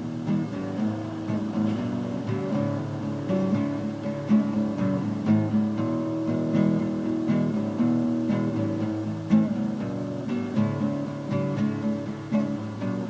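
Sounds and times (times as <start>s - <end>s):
blues guitar strumming: 0.0s - 13.0s.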